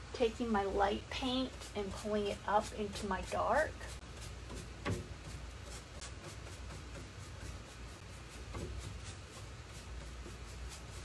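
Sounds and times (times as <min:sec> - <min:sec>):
low steady hum: 0:00.0 - 0:11.0
paintbrush stroking on wood: 0:00.8 - 0:11.0.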